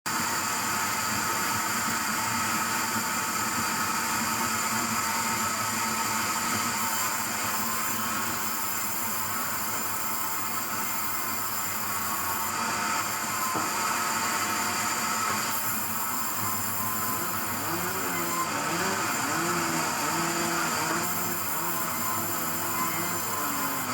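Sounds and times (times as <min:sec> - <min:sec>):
sawmill machinery whirring: 0:00.2 - 0:23.9.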